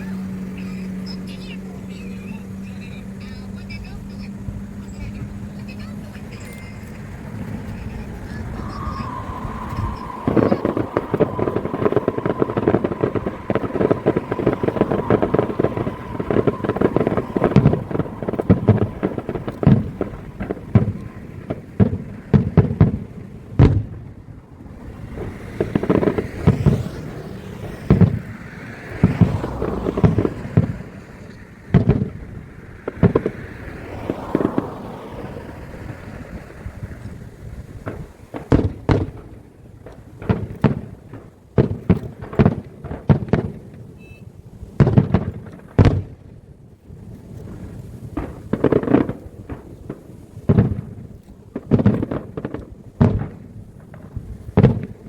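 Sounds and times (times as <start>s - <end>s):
fireworks crackling and booming: 0.0s - 55.0s
fireworks whistling: 0.0s - 55.0s.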